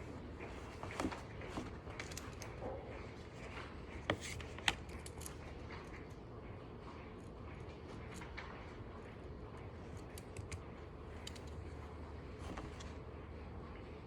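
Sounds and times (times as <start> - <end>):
ventilation hum: 0.0 - 14.0.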